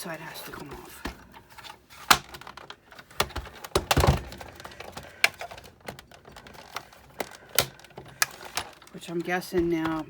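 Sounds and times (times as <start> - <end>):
clicks and knocks of hard parts: 1.0 - 10.0.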